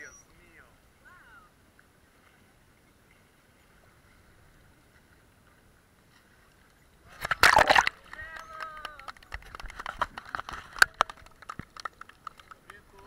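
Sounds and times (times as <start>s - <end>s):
faint sea water wash: 0.0s - 13.0s.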